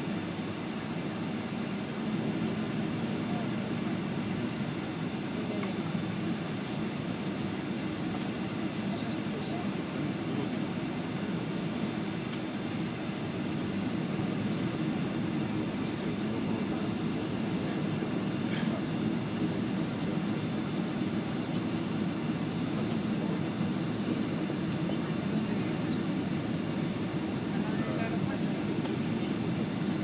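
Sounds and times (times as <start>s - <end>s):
aircraft engines rumbling in cabin: 0.0s - 30.0s.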